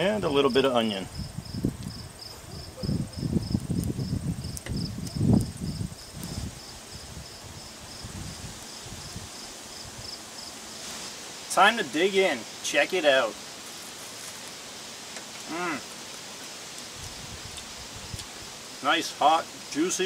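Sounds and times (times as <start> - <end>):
insect chirping: 0.0 - 19.8.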